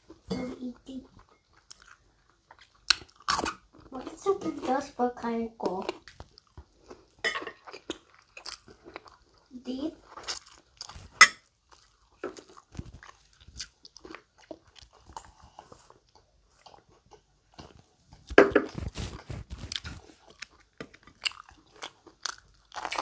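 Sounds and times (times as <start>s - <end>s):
crunching and chewing: 0.0s - 5.0s, 5.6s - 23.0s.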